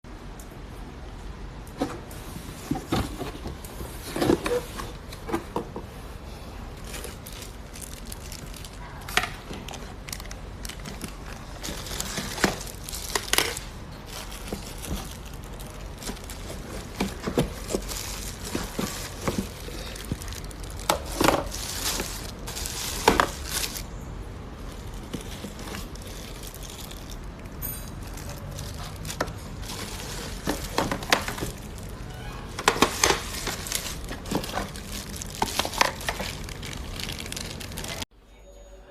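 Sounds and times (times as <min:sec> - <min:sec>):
packaging crinkling and rustling: 0:02.2 - 0:05.8, 0:06.7 - 0:38.1.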